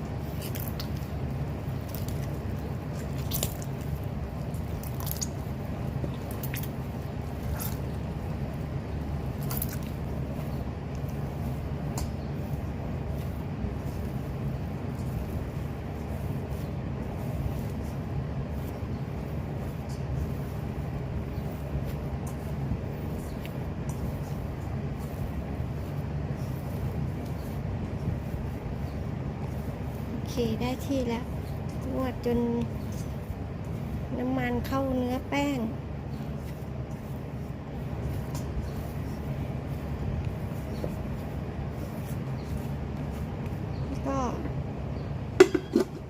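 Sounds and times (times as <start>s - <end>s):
dough squishing while kneaded: 0.0s - 46.0s
steady low hum: 0.0s - 46.0s.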